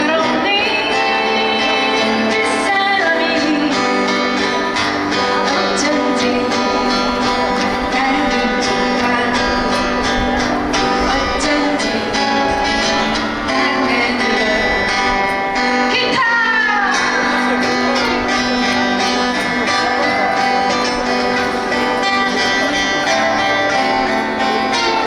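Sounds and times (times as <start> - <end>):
acoustic guitar strumming: 0.0 - 25.0
person singing: 0.0 - 25.0.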